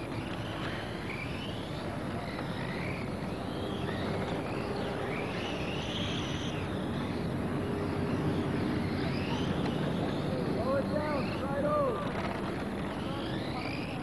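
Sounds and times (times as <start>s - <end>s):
rc car motors whining: 0.0s - 14.0s.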